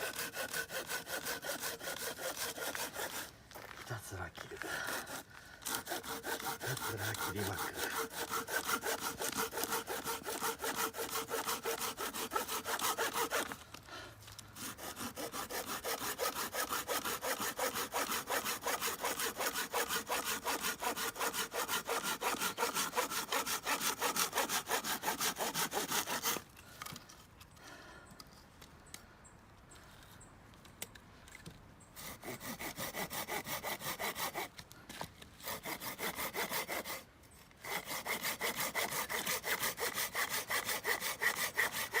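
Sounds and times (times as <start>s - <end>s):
hand saw cutting wood: 0.0s - 13.6s, 14.5s - 27.0s, 32.0s - 42.0s.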